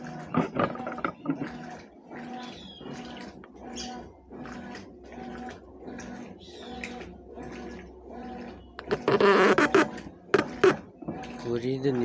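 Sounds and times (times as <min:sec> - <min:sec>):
washing machine agitating: 0:00.0 - 0:12.0
washing machine motor hum: 0:00.0 - 0:12.0
water sloshing through clothes: 0:00.0 - 0:12.0.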